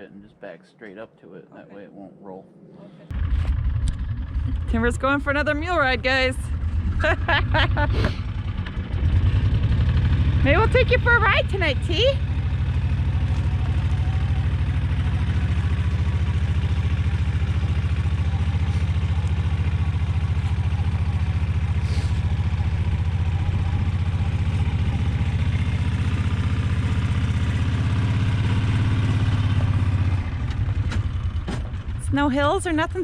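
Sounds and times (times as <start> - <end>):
utility vehicle engine running: 3.0 - 33.0.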